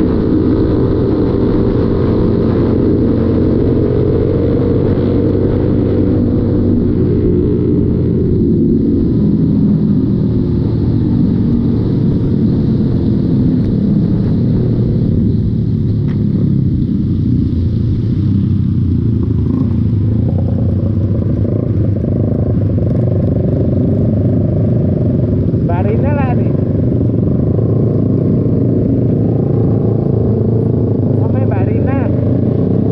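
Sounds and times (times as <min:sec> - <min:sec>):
motorcycle engine running: 0:00.0 - 0:32.9
road and wind noise: 0:00.0 - 0:32.9.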